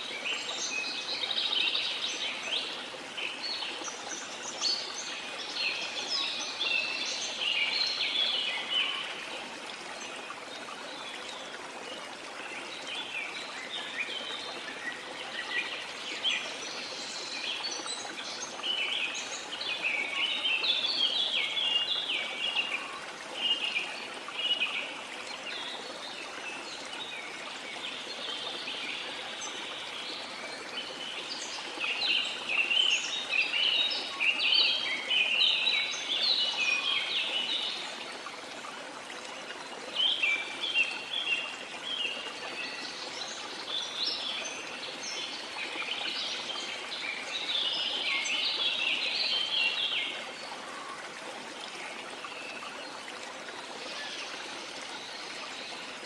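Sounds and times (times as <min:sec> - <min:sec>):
running water rush: 0:00.0 - 0:56.0.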